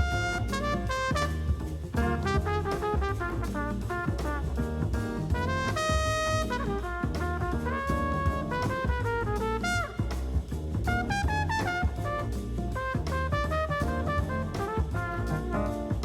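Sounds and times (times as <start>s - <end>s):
steady drum beat: 0.0s - 16.0s
upbeat jazzy tune with brass: 0.0s - 16.0s.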